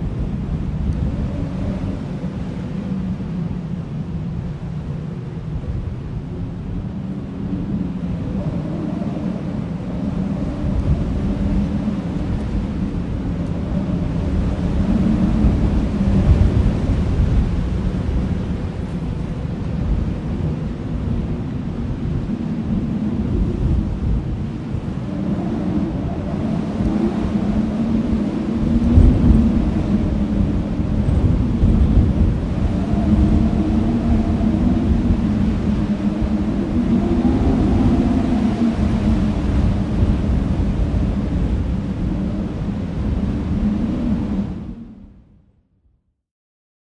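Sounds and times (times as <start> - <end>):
wind buffeting microphone: 0.0 - 45.5
low wavering hum: 5.6 - 45.3.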